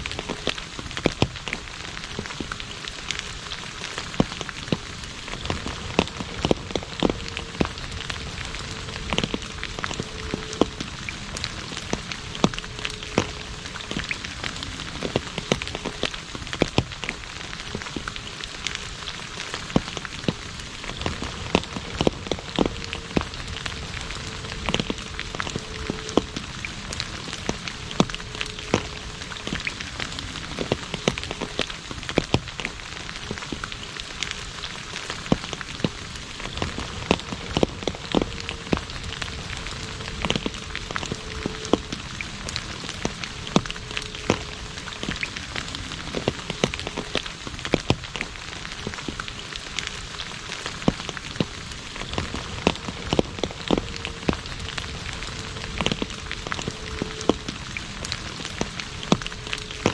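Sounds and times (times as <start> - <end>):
rain falling on asphalt: 0.0 - 59.9.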